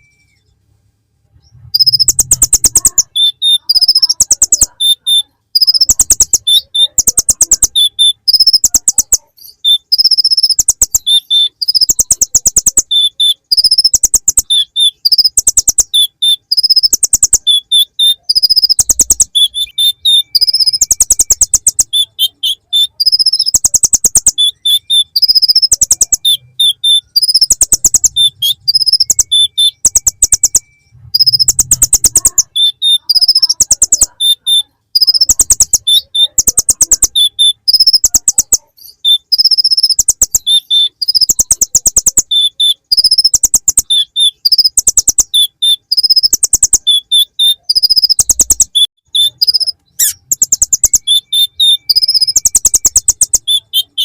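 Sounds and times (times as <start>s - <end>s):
bird singing rattling trill: 0.0s - 0.6s, 1.4s - 54.0s.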